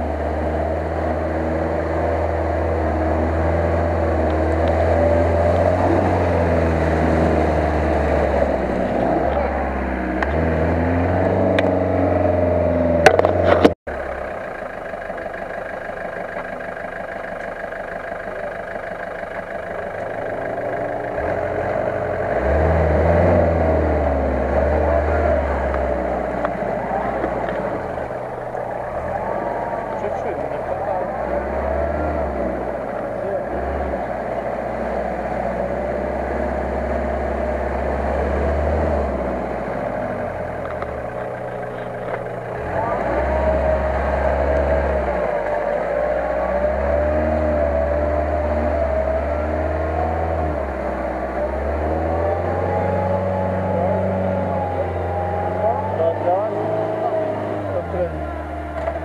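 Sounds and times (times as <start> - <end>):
engine revving through mud: 0.0 - 59.0.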